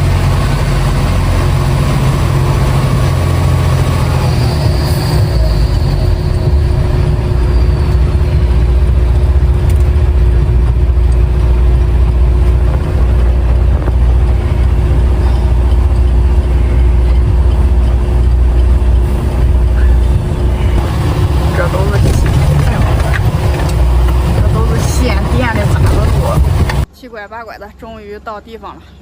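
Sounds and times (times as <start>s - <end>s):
truck engine rumbling under load: 0.0s - 29.0s.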